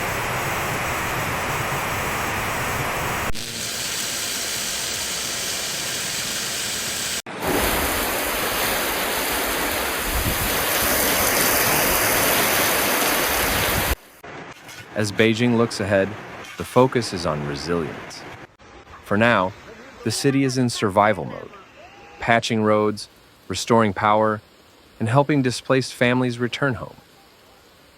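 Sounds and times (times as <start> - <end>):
water rushing: 0.0 - 14.2, 19.0 - 27.9.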